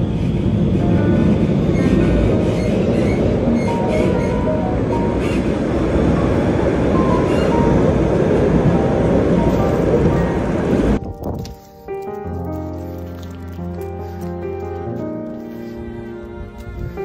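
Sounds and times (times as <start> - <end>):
tram rumbling along track: 0.0 - 11.6, 12.4 - 17.0.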